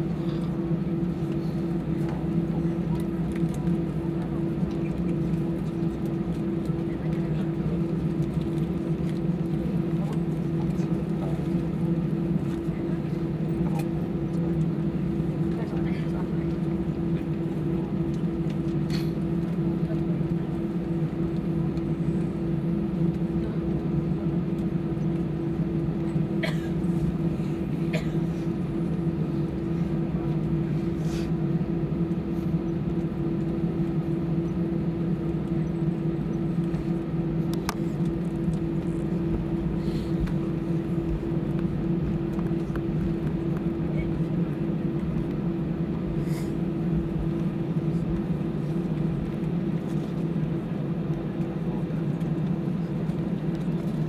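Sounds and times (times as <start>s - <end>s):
aircraft cabin engine hum: 0.0s - 54.0s.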